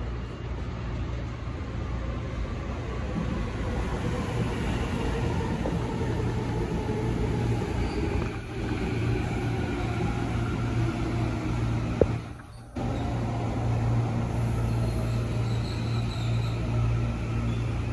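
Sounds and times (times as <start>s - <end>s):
train rumbling along track: 0.0s - 17.9s.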